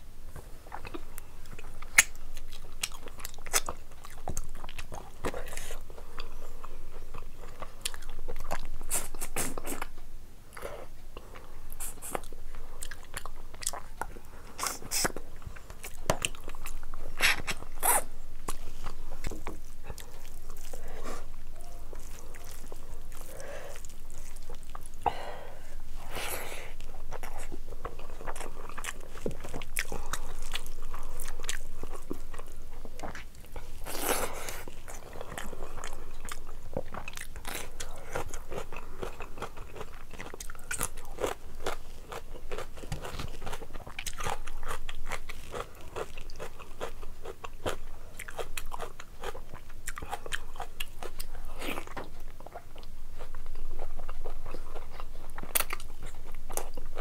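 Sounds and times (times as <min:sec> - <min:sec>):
person chewing food: 0:00.4 - 0:57.0.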